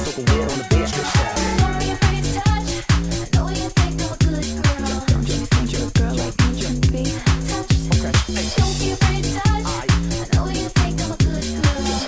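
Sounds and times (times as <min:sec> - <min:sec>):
four-on-the-floor kick drum: 0:00.0 - 0:11.8
bass line: 0:00.0 - 0:12.0.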